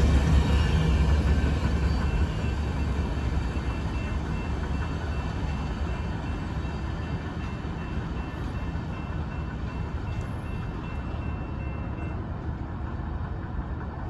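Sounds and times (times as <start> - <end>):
train cars rumbling on rails: 0.0 - 14.0.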